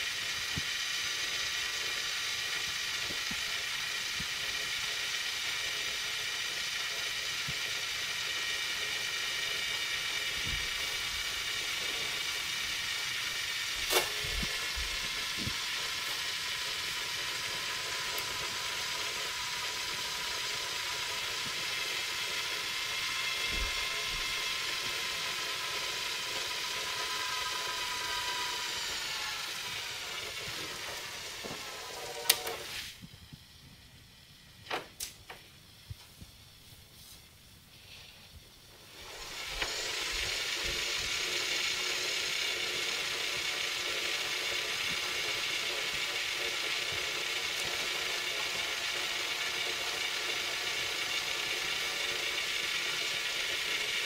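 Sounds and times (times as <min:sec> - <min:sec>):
mechanism whine and hiss: 0:00.0 - 0:54.0.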